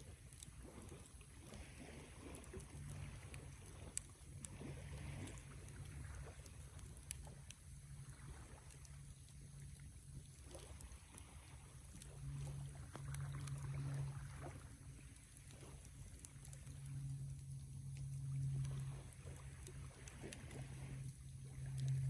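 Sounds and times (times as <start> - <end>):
campfire crackling and popping: 0.0 - 22.0
low steady fire rumble: 0.0 - 22.0.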